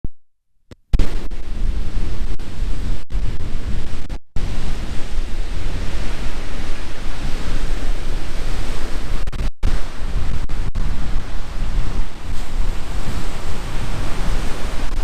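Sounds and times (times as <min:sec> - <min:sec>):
wind buffeting microphone: 0:00.9 - 0:15.0
ocean surf washing: 0:01.0 - 0:15.0.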